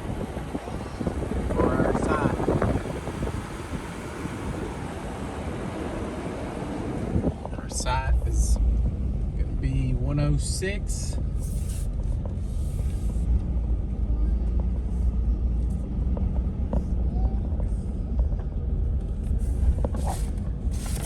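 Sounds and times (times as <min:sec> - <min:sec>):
pickup truck engine: 0:00.0 - 0:21.0
road noise: 0:00.0 - 0:21.0.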